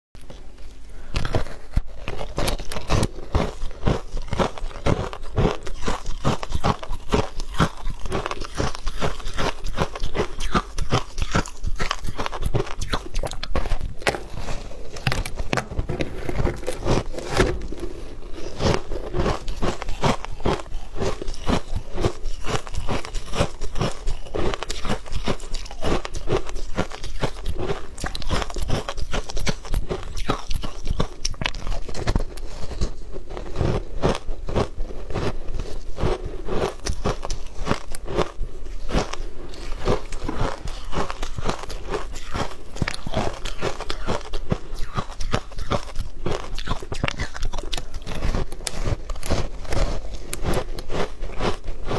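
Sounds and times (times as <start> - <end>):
ice crunching being chewed: 0.2 - 51.9.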